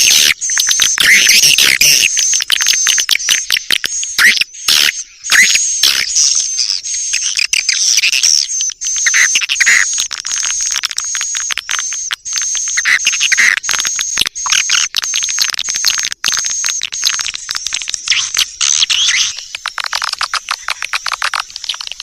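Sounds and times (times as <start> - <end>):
swiftlet chirps and twitters: 0.0 - 15.3, 16.9 - 22.0.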